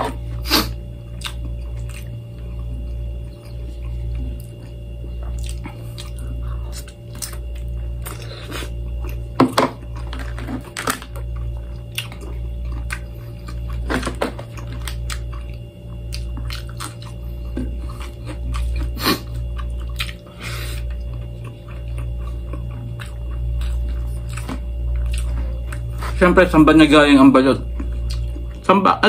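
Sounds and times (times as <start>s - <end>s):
man chewing food: 0.0s - 26.6s, 27.6s - 28.7s
steady low hum: 0.0s - 29.0s.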